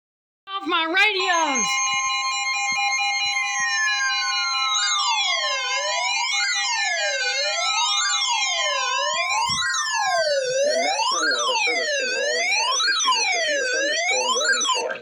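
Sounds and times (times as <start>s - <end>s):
steady alert tones: 0.6s - 15.0s
warbling siren alarm: 1.1s - 15.0s.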